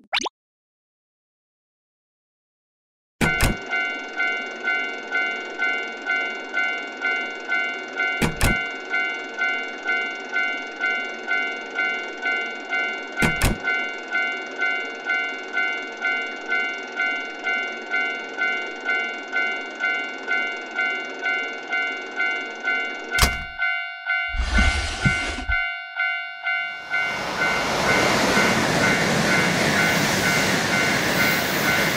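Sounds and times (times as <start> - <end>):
railroad crossing bell ringing: 3.2 - 31.9.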